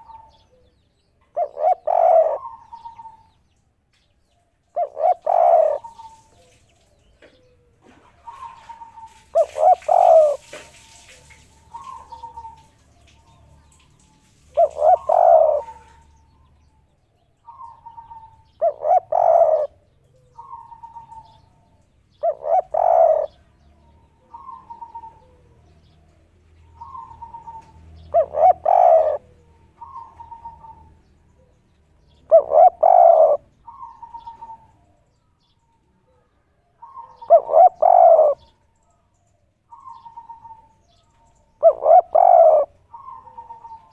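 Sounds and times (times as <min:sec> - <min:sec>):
dove cooing: 0:00.0 - 0:00.7, 0:01.3 - 0:03.3, 0:04.7 - 0:13.4, 0:14.4 - 0:16.3, 0:17.4 - 0:25.9, 0:26.8 - 0:31.5, 0:32.1 - 0:34.8, 0:36.1 - 0:38.6, 0:39.7 - 0:43.9.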